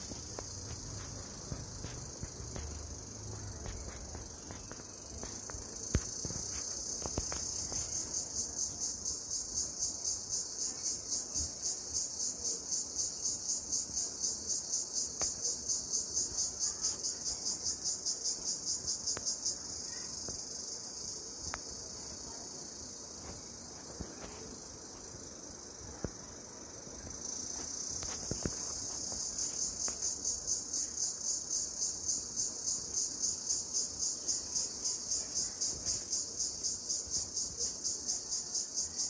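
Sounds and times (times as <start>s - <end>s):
high-pitched insect chorus: 0.0s - 39.0s.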